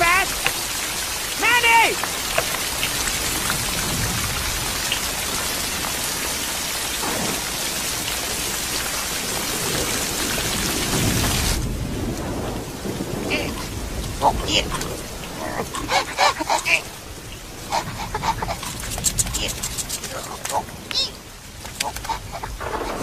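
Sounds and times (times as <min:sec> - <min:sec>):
heavy rain pouring: 0:00.0 - 0:23.0
thunder rumbling: 0:00.0 - 0:23.0.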